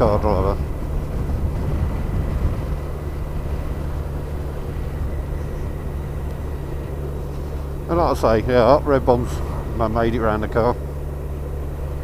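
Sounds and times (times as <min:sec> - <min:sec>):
motorcycle engine droning: 0:00.0 - 0:12.0
wind and road noise: 0:00.0 - 0:12.0.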